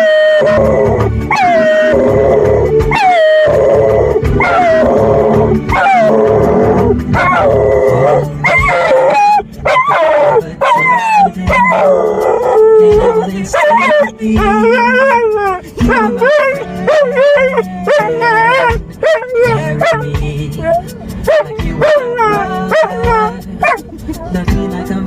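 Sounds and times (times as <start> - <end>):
dog howling: 0.0 - 23.9
background music: 0.0 - 25.0.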